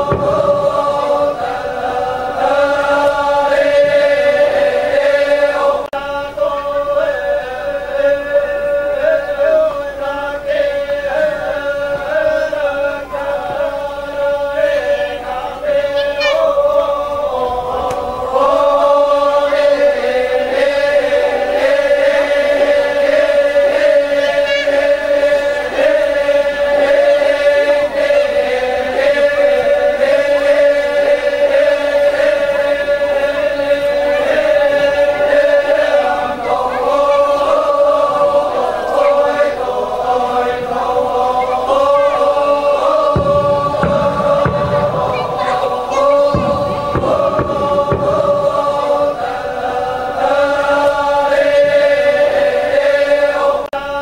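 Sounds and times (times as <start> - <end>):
group of voices chanting: 0.0 - 54.0.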